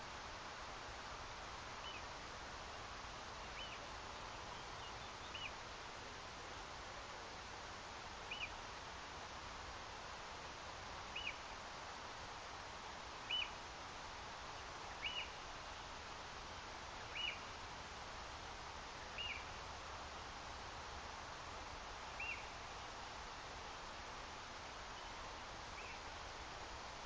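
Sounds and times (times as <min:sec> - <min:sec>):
faint background hiss: 0:00.0 - 0:27.0.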